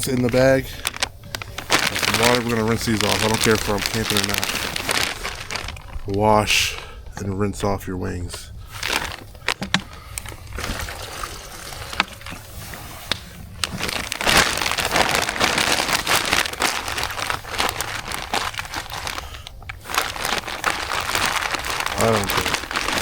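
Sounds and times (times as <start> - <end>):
plastic bag crinkling: 0.0 - 7.0, 8.6 - 12.5, 13.1 - 23.0.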